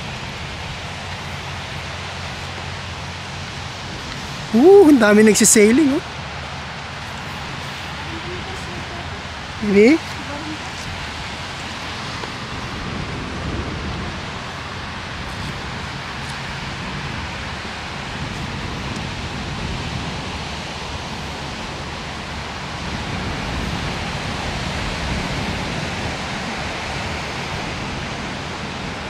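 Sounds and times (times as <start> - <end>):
small waves washing onto sand: 0.0 - 29.0
wind rumbling on microphone: 0.0 - 29.0.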